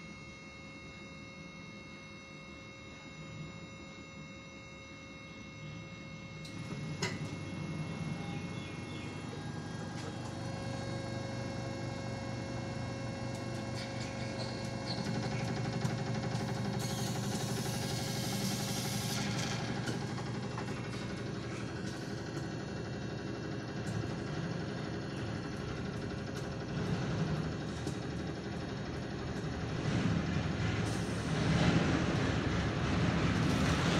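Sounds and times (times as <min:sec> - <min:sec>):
analyzer mechanical hum: 0:00.0 - 0:33.9.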